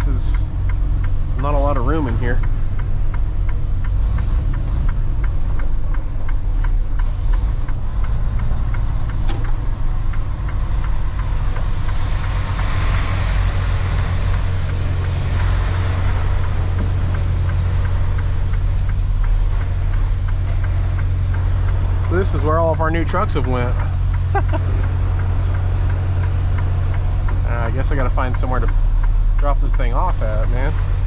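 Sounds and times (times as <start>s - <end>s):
diesel truck engine running: 0.0s - 31.0s
light regular ticking: 0.0s - 31.0s.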